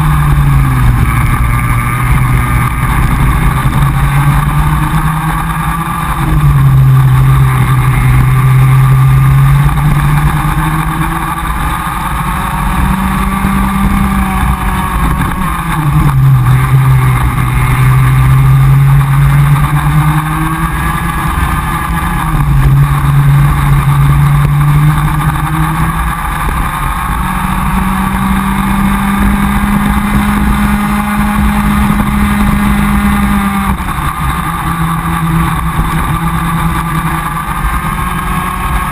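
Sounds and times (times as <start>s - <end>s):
kart engine at racing speed: 0.0s - 38.9s.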